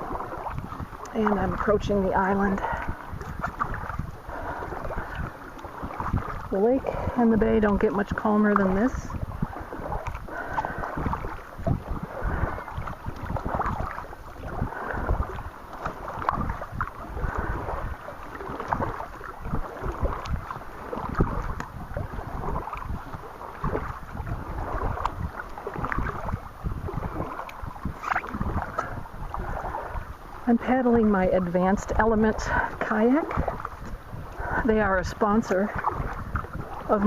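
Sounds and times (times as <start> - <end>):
paddle splashing in water: 0.0 - 37.0
wind buffeting microphone: 0.0 - 37.0.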